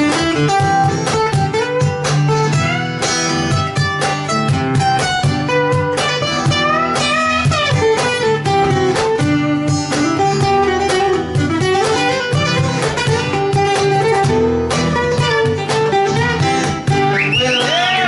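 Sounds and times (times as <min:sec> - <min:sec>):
acoustic guitars: 0:00.0 - 0:18.0
cajon beat: 0:00.0 - 0:18.0.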